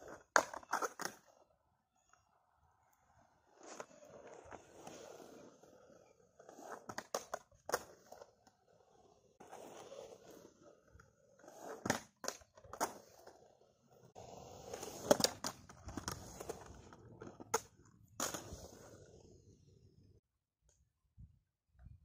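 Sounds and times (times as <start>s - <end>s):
skateboard wheels rolling: 0.0s - 20.2s.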